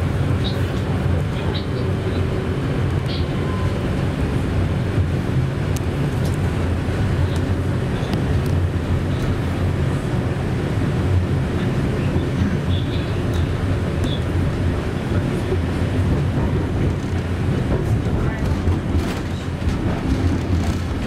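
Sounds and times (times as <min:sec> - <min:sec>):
tram wheels rumbling on track: 0:00.0 - 0:21.0.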